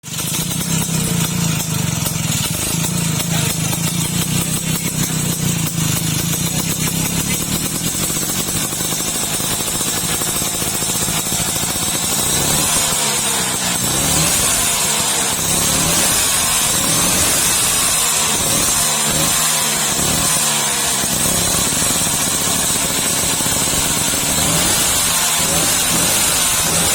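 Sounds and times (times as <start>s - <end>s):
scooter engine idling and revving: 0.0s - 26.9s.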